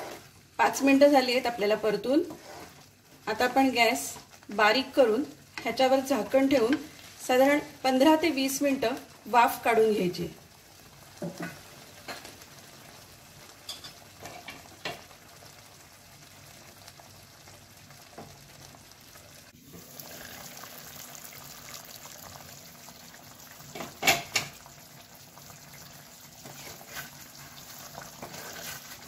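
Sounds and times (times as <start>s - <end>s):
food sizzling in a pan: 0.0s - 29.0s.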